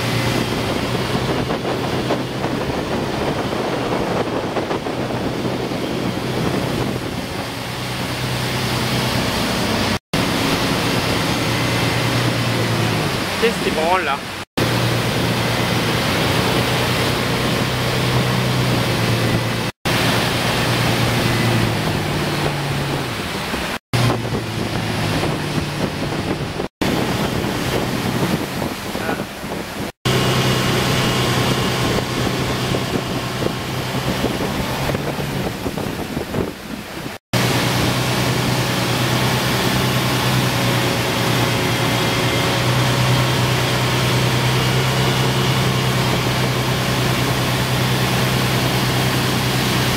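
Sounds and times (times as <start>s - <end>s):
wind on microphone: 0.0s - 13.9s, 14.6s - 49.9s
churning wake water: 0.0s - 49.9s
motorboat engine running: 0.0s - 49.9s.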